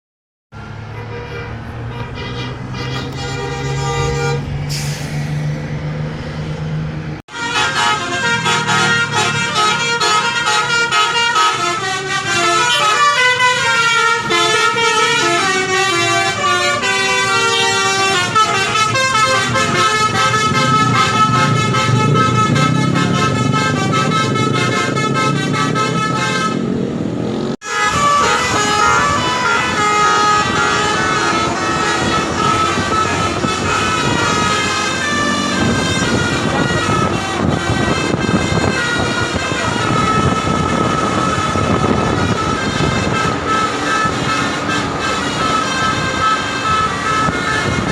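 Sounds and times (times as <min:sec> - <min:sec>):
bus musical horns playing a melody: 0:00.6 - 0:05.4, 0:07.3 - 0:47.9
bus engine running: 0:00.6 - 0:47.9.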